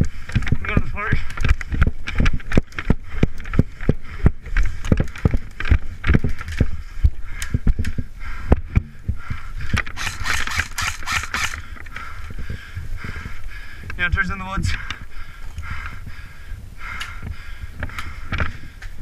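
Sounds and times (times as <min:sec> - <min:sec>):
wind rumble on microphone: 0:00.0 - 0:10.0, 0:11.6 - 0:19.0.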